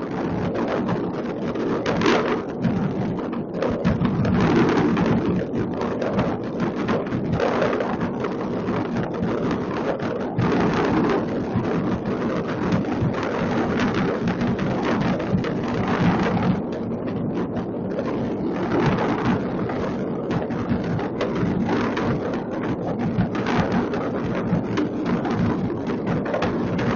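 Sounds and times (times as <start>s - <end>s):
fireworks bursting and crackling: 0.2s - 26.9s.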